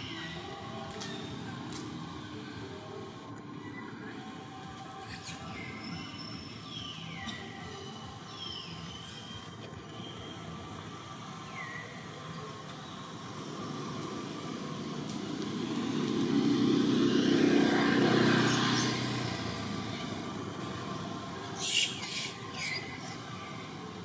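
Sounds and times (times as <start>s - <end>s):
passing vehicle engine hum: 0.0s - 24.0s.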